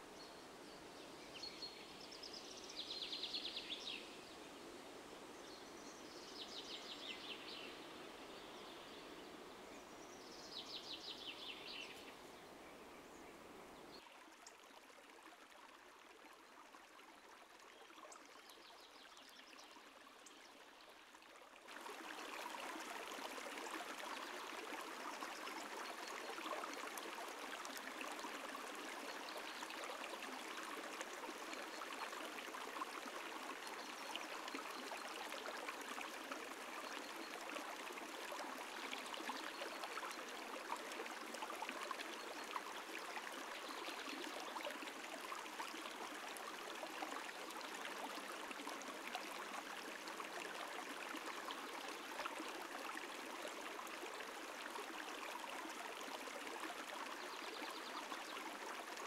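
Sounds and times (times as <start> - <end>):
shallow stream running: 0.0 - 59.0.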